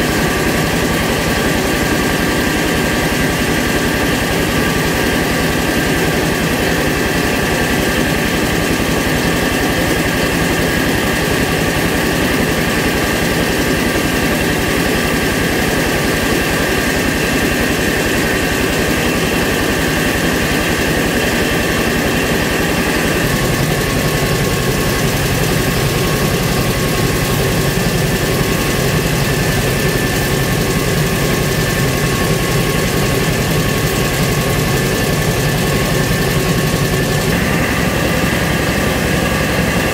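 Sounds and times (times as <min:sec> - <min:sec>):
rice milling machine running: 0:00.0 - 0:39.9.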